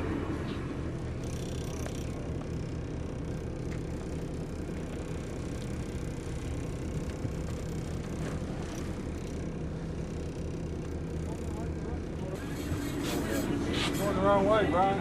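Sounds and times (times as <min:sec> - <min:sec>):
boat engine running low: 0:00.0 - 0:15.0
wind: 0:00.0 - 0:15.0.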